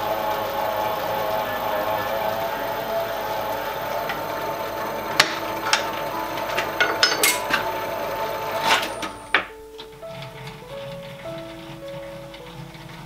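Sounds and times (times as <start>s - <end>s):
milling machine whine: 0.0s - 13.0s.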